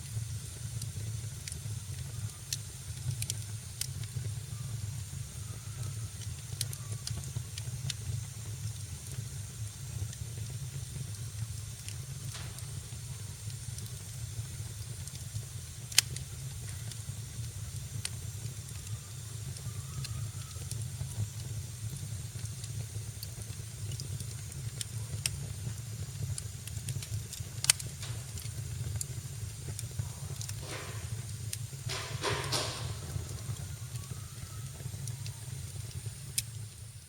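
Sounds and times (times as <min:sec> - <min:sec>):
hissing flare of fire: 0:00.0 - 0:37.0
loud pops of fire: 0:00.0 - 0:37.0
wood fire crackling: 0:00.0 - 0:37.0.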